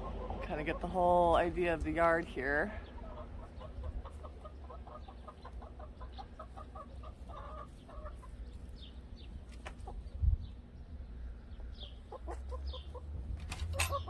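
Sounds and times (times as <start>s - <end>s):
hens clucking: 0.0s - 10.7s, 11.5s - 13.2s.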